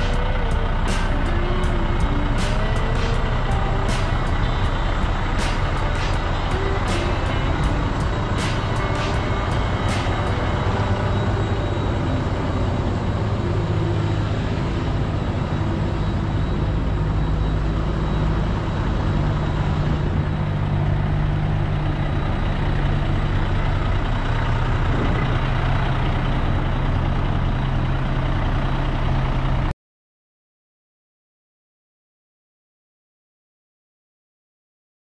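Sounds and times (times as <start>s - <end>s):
diesel truck engine idling: 0.0s - 29.7s.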